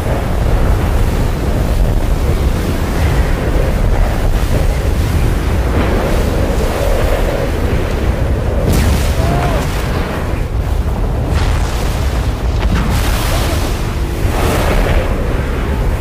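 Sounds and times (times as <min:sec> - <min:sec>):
deep rumble: 0:00.0 - 0:16.0
rushing wind and sand: 0:00.0 - 0:16.0
whooshing surges: 0:00.2 - 0:16.0.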